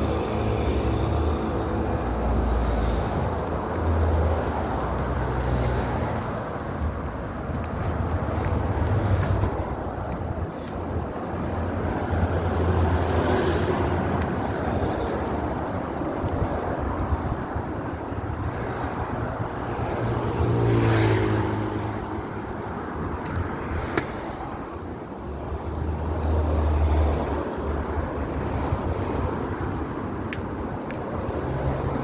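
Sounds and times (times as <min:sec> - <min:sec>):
road and traffic noise: 0:00.0 - 0:32.0
wind rumble on microphone: 0:02.9 - 0:32.0.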